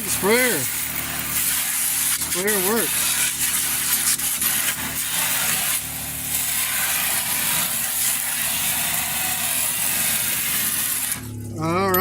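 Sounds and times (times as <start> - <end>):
water spraying from hand sprayer: 0.0 - 11.3.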